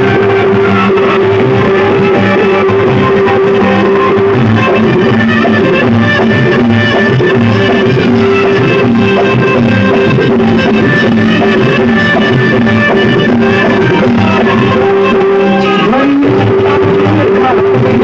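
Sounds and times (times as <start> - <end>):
loud remix music: 0.0 - 18.0.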